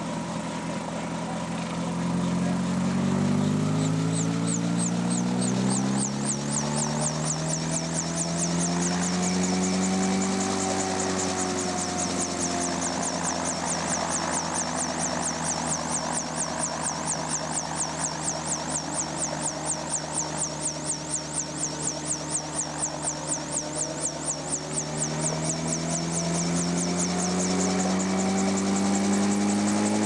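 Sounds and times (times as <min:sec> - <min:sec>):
engine running: 0:00.0 - 0:30.0
helicopter rotor beating: 0:00.0 - 0:30.0.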